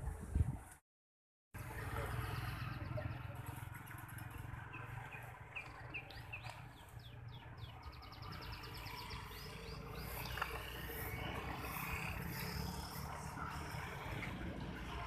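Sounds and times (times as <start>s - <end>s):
motorbike traffic rumble: 1.6s - 15.0s
small birds chirping and trilling: 1.6s - 15.0s.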